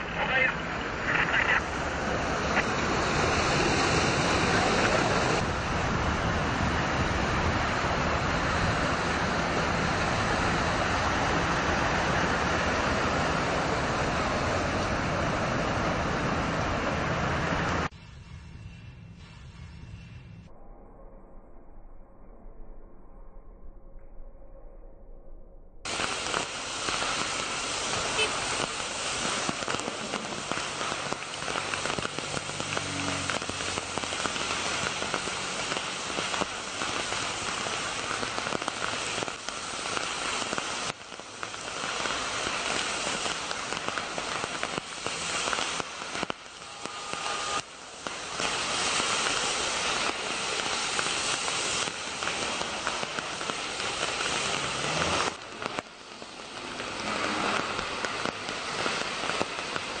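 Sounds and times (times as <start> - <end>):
cars driving through rain: 0.0 - 17.9, 25.9 - 60.0
heavy rain on road: 0.0 - 17.9, 25.9 - 60.0.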